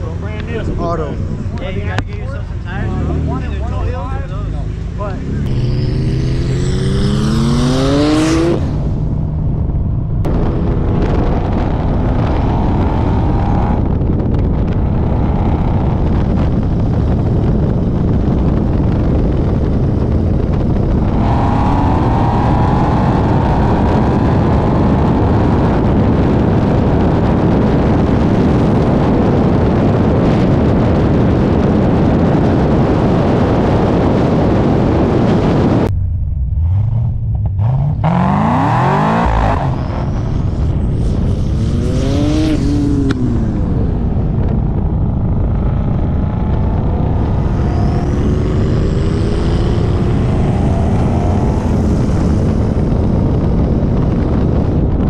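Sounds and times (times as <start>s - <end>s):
car engine revving: 0.0s - 54.9s
wind and road roar: 0.0s - 55.0s.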